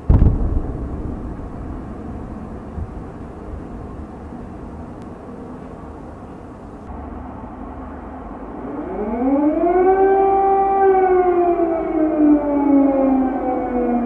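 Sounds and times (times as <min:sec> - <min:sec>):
air-raid siren wailing: 0:00.0 - 0:06.9, 0:08.5 - 0:14.0
low background noise: 0:00.0 - 0:14.0.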